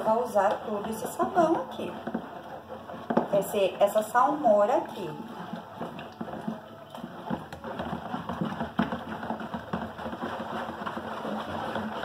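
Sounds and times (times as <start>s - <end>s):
stick knocking plastic bowl: 0.0s - 4.0s, 4.7s - 12.0s
liquid soap sloshing when stirred: 0.0s - 12.0s.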